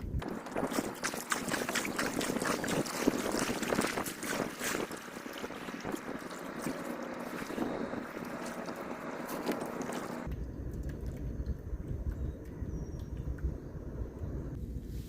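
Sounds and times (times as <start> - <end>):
water lapping around kayak: 0.1 - 13.4
small splashes and knocks: 0.2 - 12.3.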